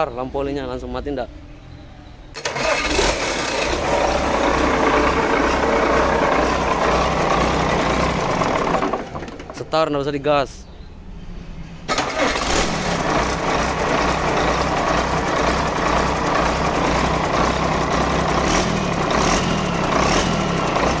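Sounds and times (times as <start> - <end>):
engine starting and idling: 2.3 - 10.0, 11.9 - 21.0.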